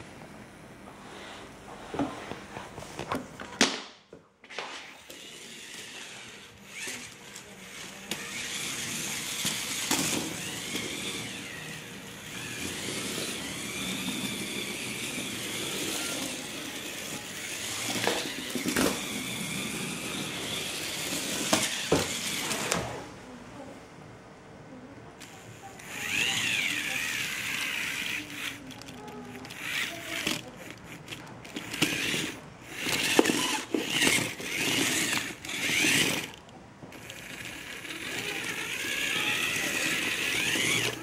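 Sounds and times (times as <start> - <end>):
small electric motors whining: 4.8 - 23.0, 25.2 - 41.0.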